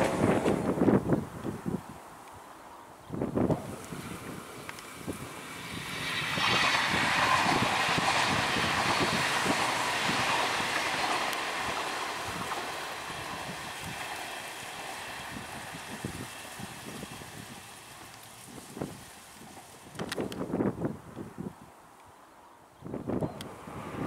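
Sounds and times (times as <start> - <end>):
train wheel and track rush: 0.0 - 1.6, 3.3 - 20.8, 23.4 - 24.0.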